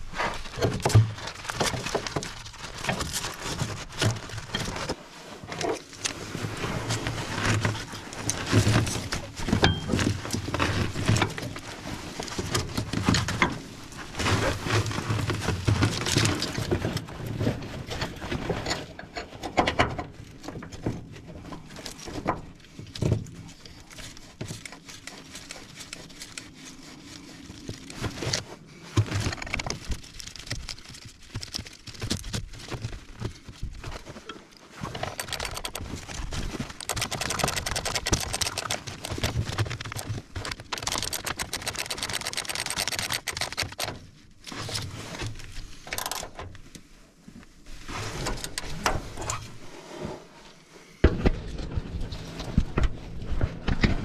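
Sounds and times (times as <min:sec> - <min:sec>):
rustling and scraping: 0:00.0 - 0:54.0.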